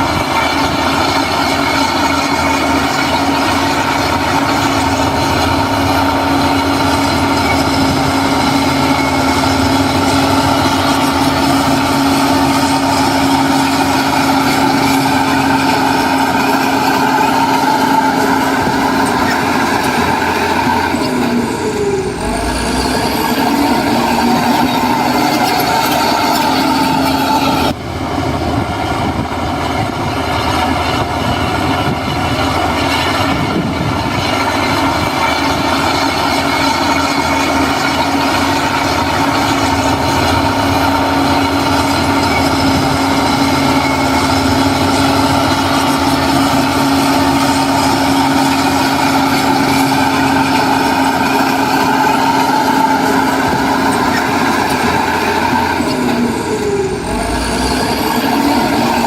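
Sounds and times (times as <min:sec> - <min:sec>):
diesel engine under load: 0:00.0 - 0:59.0
mechanical whine: 0:00.0 - 0:59.0.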